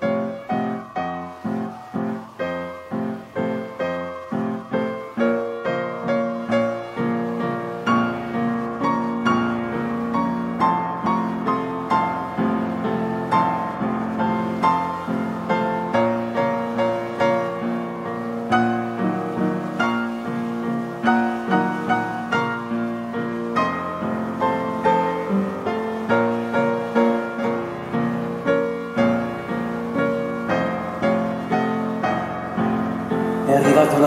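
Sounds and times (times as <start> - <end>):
solo piano waltz: 0.0 - 34.0.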